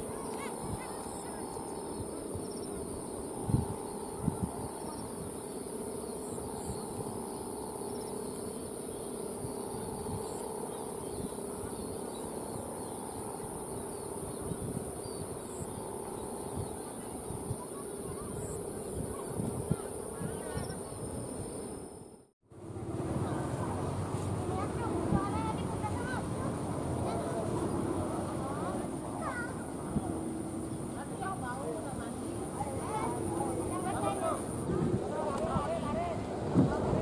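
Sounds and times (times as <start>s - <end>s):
kite hummer droning: 0.0s - 37.0s.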